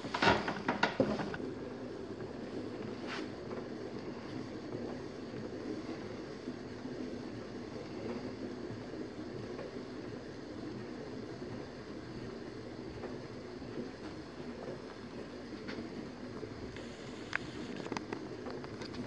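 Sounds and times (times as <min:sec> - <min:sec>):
potter's wheel running: 0:00.0 - 0:19.0.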